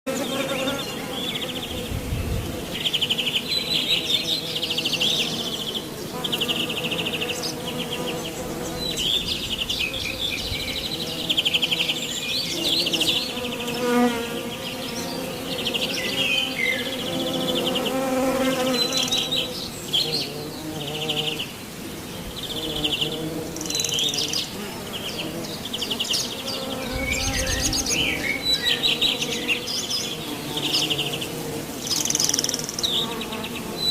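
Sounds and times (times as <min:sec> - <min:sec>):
birds trilling: 0:00.1 - 0:21.5, 0:22.2 - 0:33.9
insect buzzing: 0:00.1 - 0:33.9.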